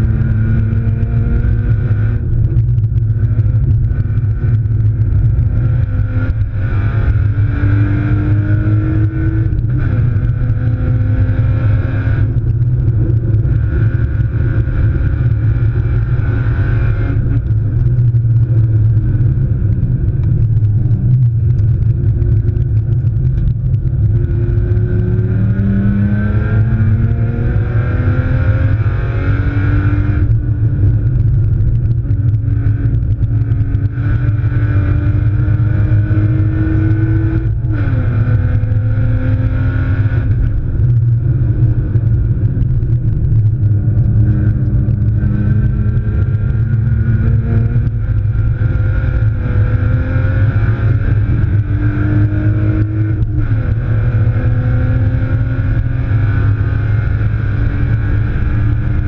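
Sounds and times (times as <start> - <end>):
car engine revving from inside cabin: 0.0 - 2.6, 3.2 - 31.0, 32.3 - 59.0.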